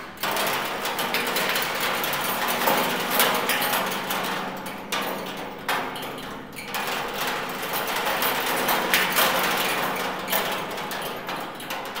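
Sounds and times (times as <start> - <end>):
spoons and wire clattering on metal drum: 0.2 - 12.0.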